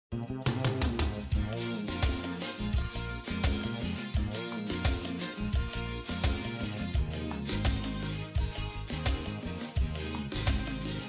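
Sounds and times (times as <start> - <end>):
tv intro music with beat: 0.1 - 11.0.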